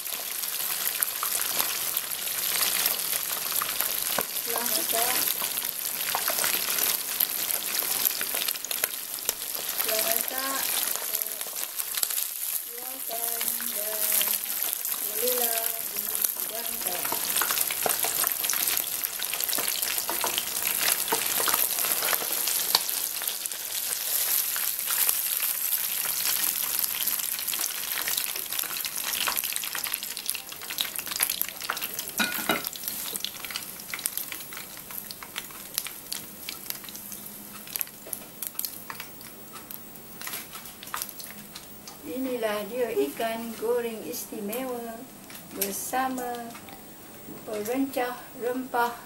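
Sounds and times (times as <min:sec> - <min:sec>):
fish frying in hot oil: 0:00.0 - 0:46.8.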